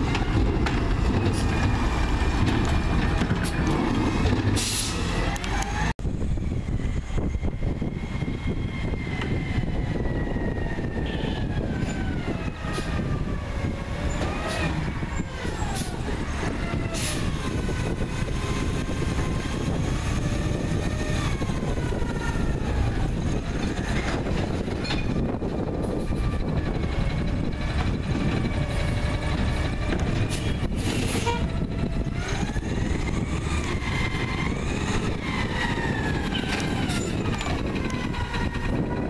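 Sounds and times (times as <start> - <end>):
garbage truck engine: 0.0 - 6.0, 6.9 - 39.0.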